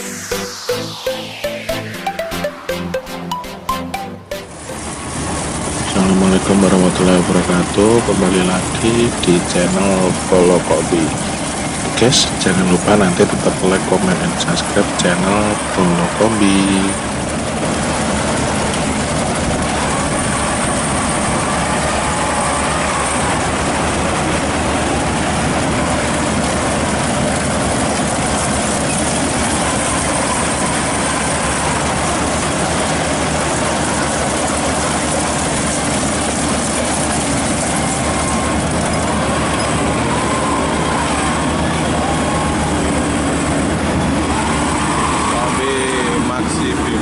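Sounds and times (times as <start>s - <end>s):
combine harvester engine drone: 0.0s - 1.7s, 4.6s - 47.0s.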